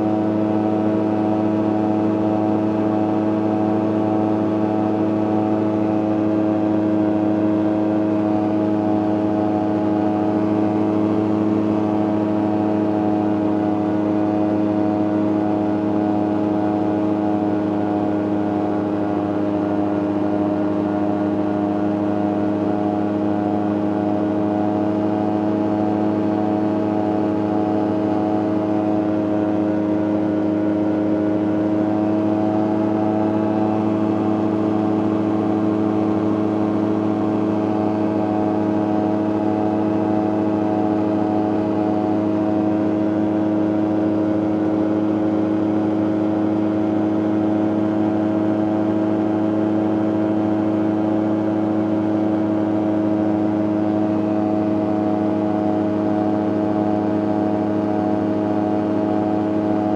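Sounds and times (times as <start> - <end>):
ultralight engine and propeller humming: 0.0 - 59.9.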